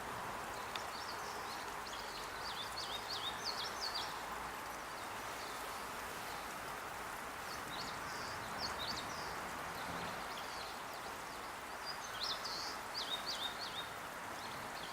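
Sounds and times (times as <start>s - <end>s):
steady outdoor hiss: 0.0s - 14.9s
small birds chirping: 0.5s - 14.9s.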